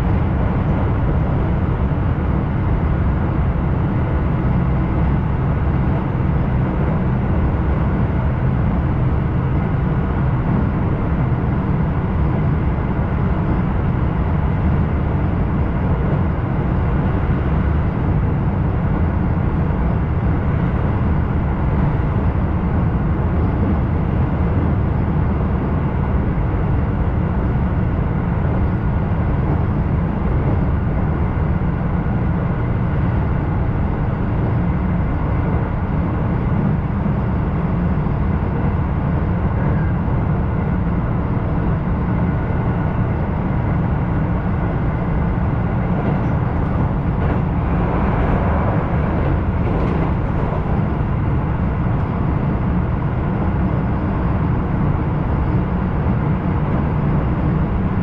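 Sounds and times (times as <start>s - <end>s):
train interior low rumble: 0.0s - 58.0s.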